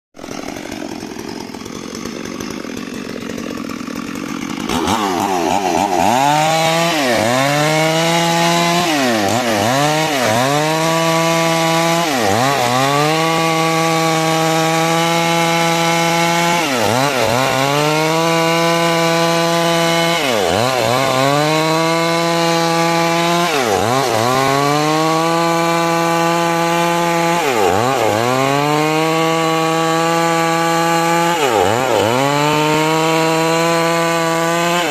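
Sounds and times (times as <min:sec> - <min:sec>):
chainsaw cutting wood: 0:00.2 - 0:34.9.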